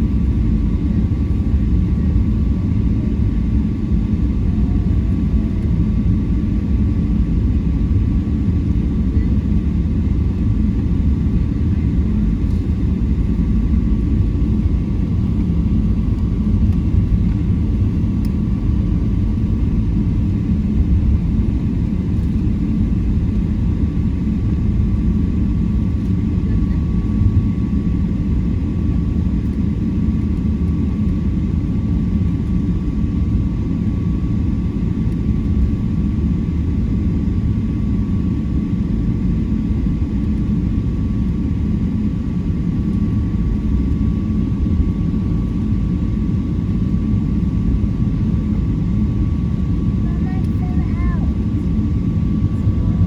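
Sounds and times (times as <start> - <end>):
airplane engine rumble: 0.0 - 53.0.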